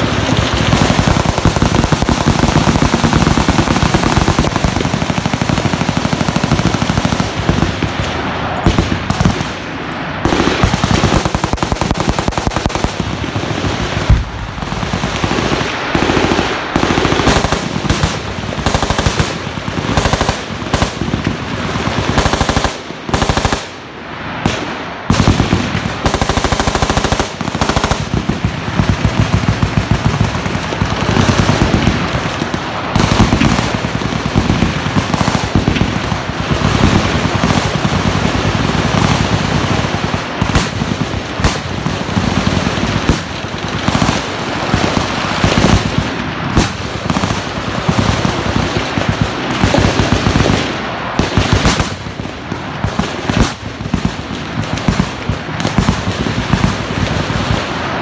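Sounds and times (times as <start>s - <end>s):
machine-gun fire: 0.0s - 9.6s, 10.2s - 58.0s.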